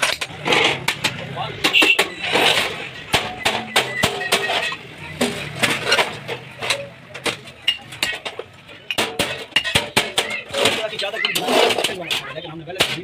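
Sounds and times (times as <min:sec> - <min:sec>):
sharp knocks and clinks: 0:00.0 - 0:13.0.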